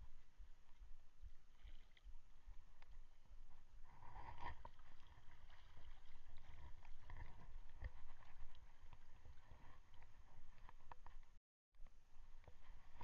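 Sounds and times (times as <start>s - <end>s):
shallow water splashing and lapping: 0.1s - 11.2s.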